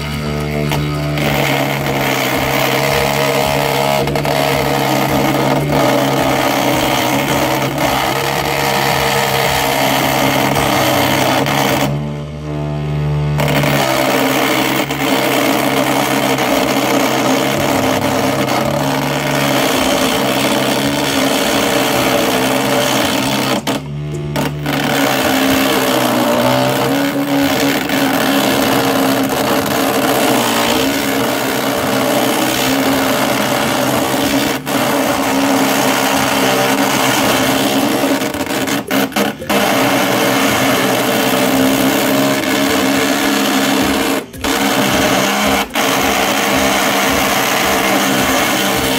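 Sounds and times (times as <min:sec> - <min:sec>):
small electric motor humming: 0:00.0 - 0:48.9
tool scraping spinning wood: 0:00.0 - 0:48.9.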